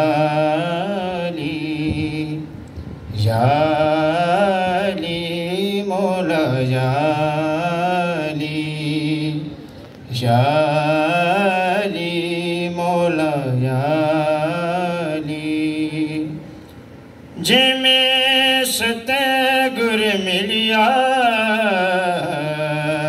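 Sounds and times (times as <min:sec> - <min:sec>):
man singing hymn unaccompanied: 0:00.0 - 0:16.5, 0:17.3 - 0:23.0.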